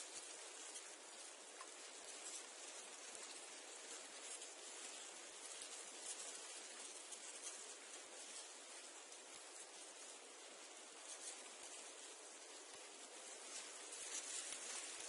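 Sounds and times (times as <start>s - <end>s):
reeds rustling in wind: 0.0s - 15.0s.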